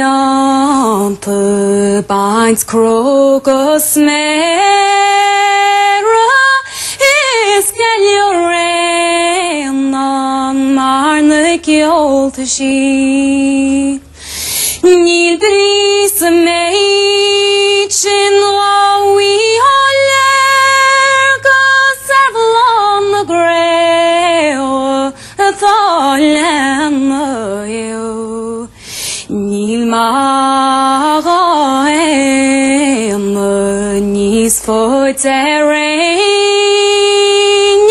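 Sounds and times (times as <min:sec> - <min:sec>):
woman singing unaccompanied: 0:00.0 - 0:37.9.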